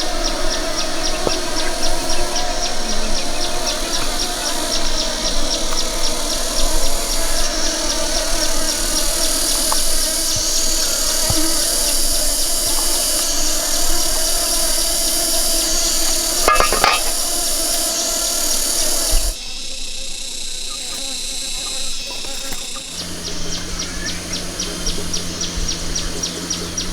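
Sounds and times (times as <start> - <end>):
high insect drone: 0.0 - 26.9
honeybees buzzing: 0.0 - 26.9.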